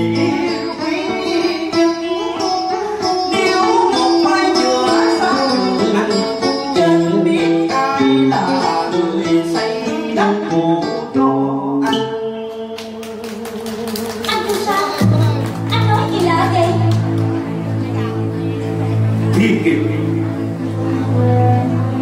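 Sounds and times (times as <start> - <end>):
plucked string melody: 0.0 - 22.0.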